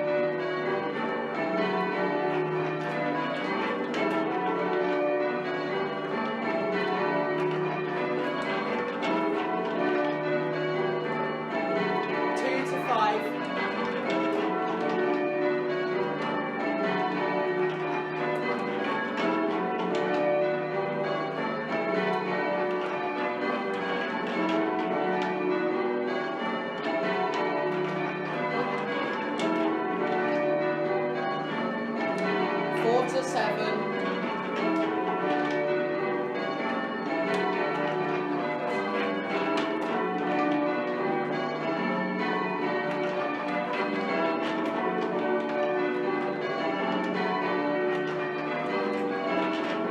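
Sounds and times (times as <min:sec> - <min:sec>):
church bells change ringing: 0:00.0 - 0:49.9.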